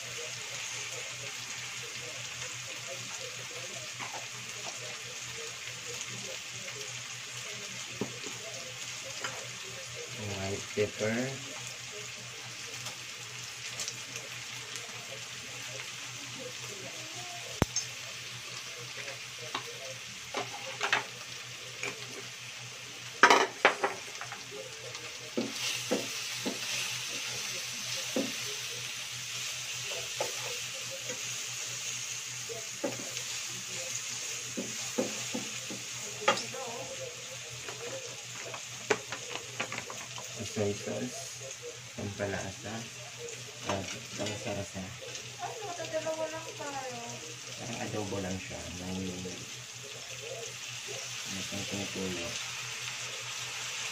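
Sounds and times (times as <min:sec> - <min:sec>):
meat sizzling in a pan: 0:00.0 - 0:53.9.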